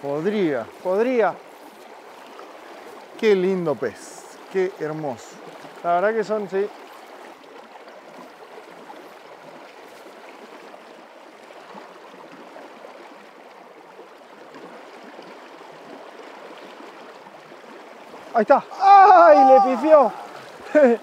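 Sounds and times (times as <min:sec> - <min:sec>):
shallow river flowing: 0:00.0 - 0:21.0.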